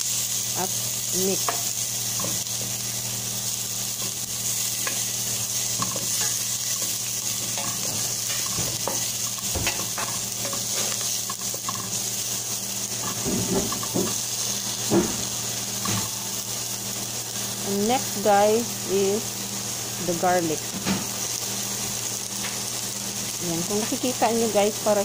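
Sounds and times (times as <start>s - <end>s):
onion sizzling in oil: 0.0s - 25.0s.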